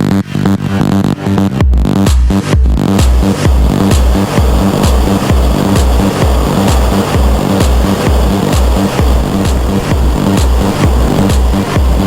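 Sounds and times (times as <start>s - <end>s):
bass line: 0.0s - 12.0s
electronic dance music: 0.0s - 12.0s
heavy kick drum: 1.5s - 12.0s.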